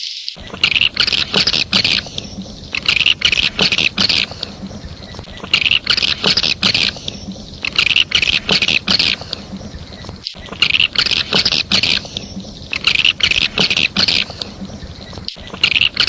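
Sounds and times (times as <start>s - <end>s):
swiftlet chirping and twittering: 0.4s - 16.0s.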